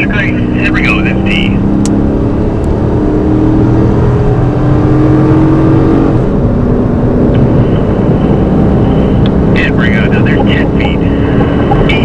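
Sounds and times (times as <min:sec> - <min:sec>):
car engine at high speed: 0:00.0 - 0:12.0
road and wind rumble: 0:00.0 - 0:12.0.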